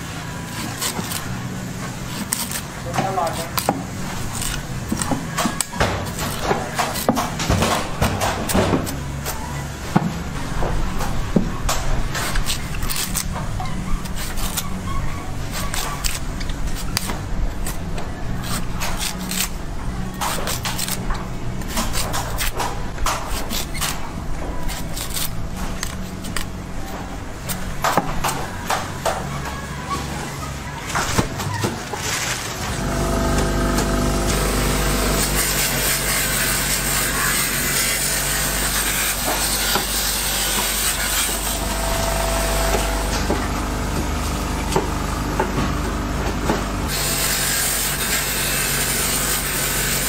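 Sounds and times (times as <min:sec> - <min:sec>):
street traffic rumble: 0:00.0 - 0:50.0.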